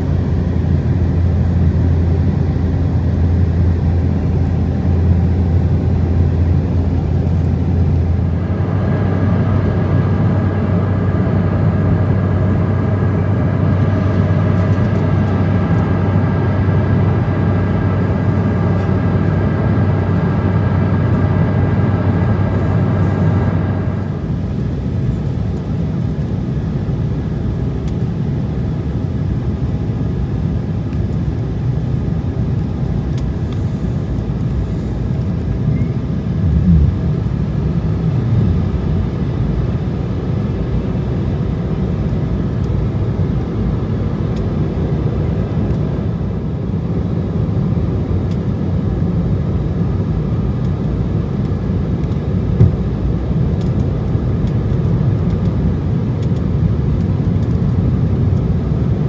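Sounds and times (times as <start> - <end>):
airliner cabin rumble: 0.0 - 59.0
faint steady engine tones: 0.0 - 59.0.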